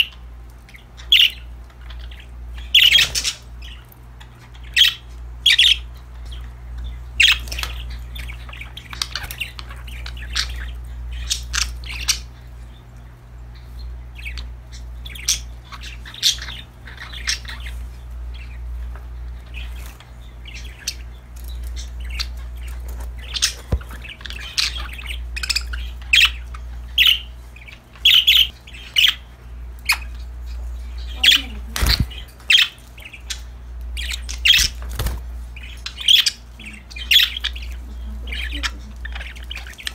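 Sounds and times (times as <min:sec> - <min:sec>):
budgerigars chirping and squawking: 0:00.0 - 0:39.9
steady low hum: 0:00.0 - 0:39.9.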